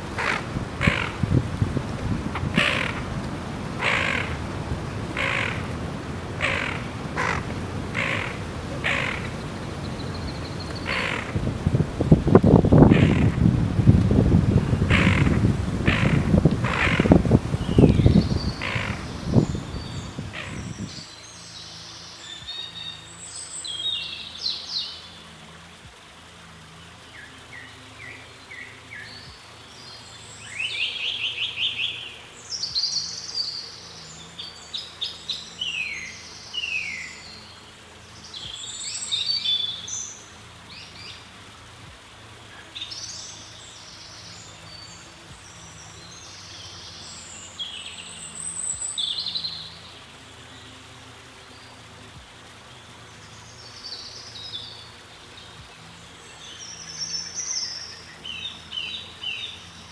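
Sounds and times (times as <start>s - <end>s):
small birds chirping and singing: 0.0s - 13.5s, 14.5s - 59.9s.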